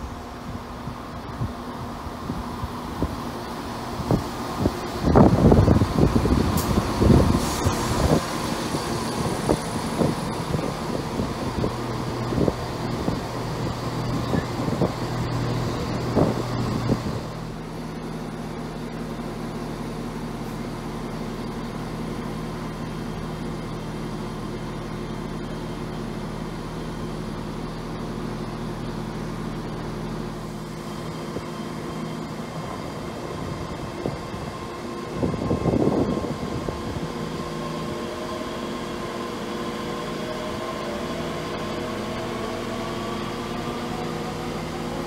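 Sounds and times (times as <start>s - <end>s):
diesel train engine drone: 0.0s - 45.0s
electric train humming: 0.0s - 45.0s.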